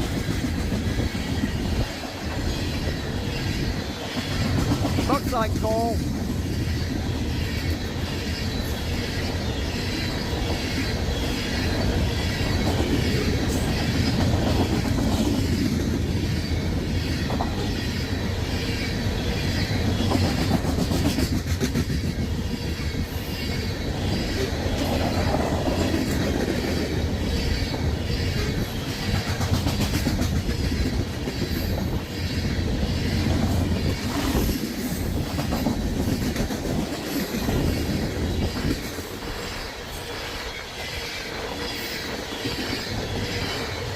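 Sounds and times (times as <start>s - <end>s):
train rumbling: 0.0s - 43.9s
train wheels clicking over rail joints: 0.0s - 43.9s.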